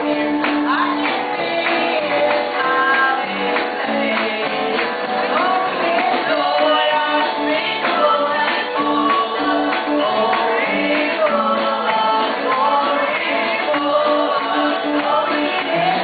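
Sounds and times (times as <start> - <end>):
women singing gospel: 0.0 - 16.0.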